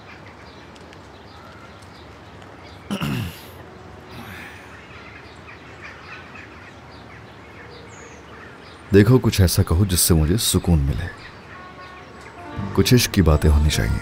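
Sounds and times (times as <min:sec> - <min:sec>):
birds chirping: 0:00.0 - 0:14.0
park background noise: 0:00.0 - 0:14.0.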